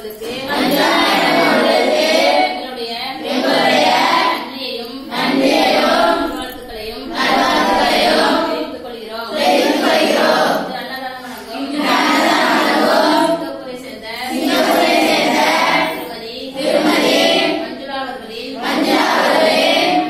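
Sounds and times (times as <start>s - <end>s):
women chanting in unison: 0.0s - 20.0s.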